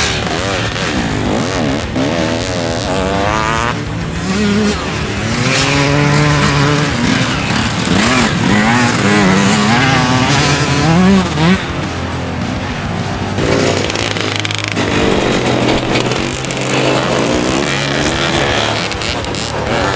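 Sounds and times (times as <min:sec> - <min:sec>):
motorcycle engines revving: 0:00.0 - 0:19.9.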